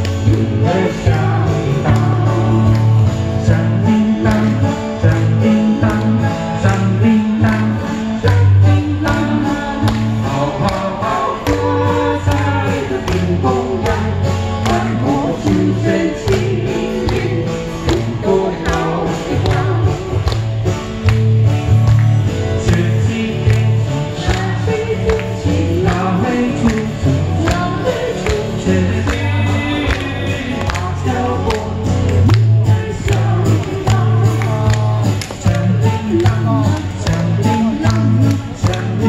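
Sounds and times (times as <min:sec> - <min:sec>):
person singing through pa: 0:00.0 - 0:20.8, 0:22.6 - 0:39.0
backing music with beat and bass: 0:00.0 - 0:39.0.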